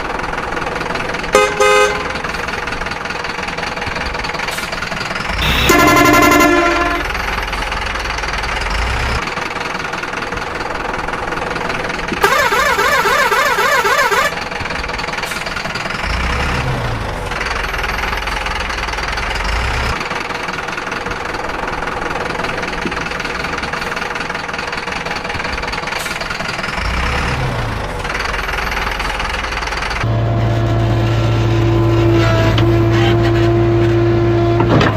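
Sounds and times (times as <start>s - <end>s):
cartoon construction vehicle engines: 0.0s - 34.9s.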